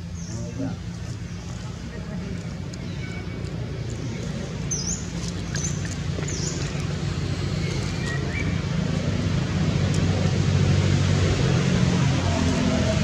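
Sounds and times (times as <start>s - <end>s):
low motor-like hum: 0.0s - 13.0s.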